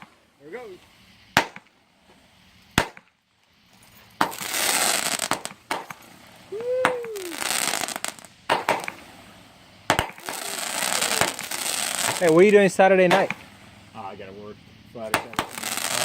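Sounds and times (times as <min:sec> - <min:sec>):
firework bangs: 0:00.0 - 0:16.0
firework crackling: 0:00.0 - 0:16.0.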